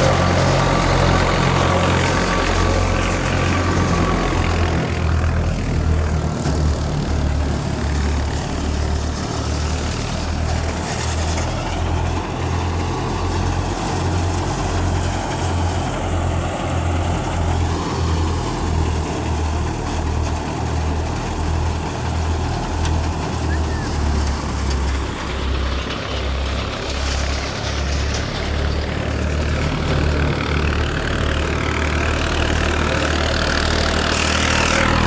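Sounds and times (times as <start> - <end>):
tractor engine throbbing: 0.0 - 35.0.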